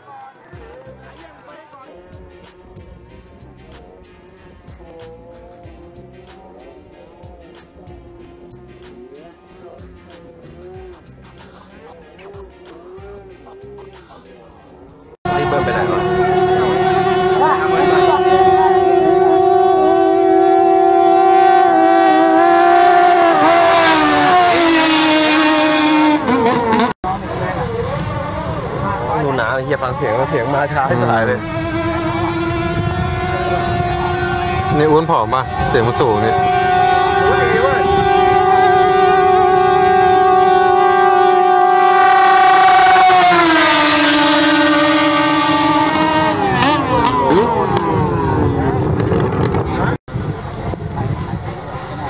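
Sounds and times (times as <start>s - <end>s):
boat engines roaring past: 0.0s - 52.0s.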